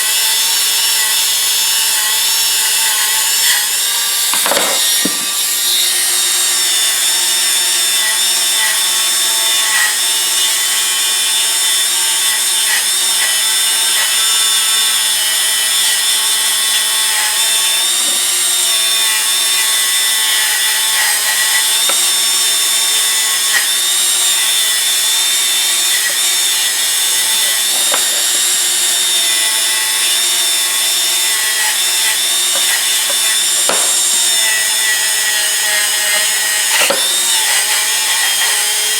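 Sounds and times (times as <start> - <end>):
power tool motor hum: 0.0 - 38.9.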